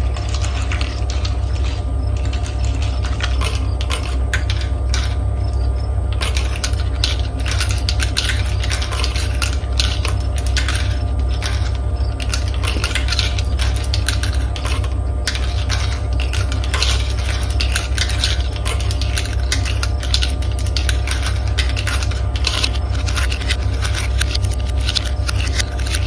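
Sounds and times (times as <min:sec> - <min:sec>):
marbles clattering down a track: 0:00.0 - 0:26.0
steady low rumble: 0:00.0 - 0:26.0.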